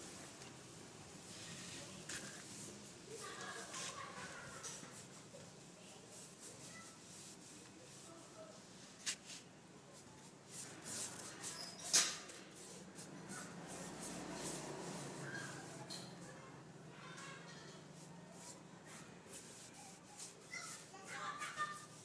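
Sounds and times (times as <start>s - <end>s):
brush and rag rubbing wood: 1.3s - 16.3s, 17.2s - 22.0s.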